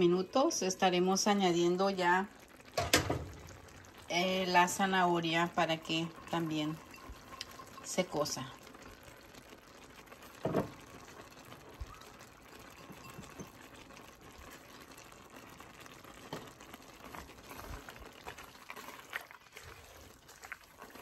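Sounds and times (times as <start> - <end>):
pan simmering bubbling hiss: 0.0 - 21.0.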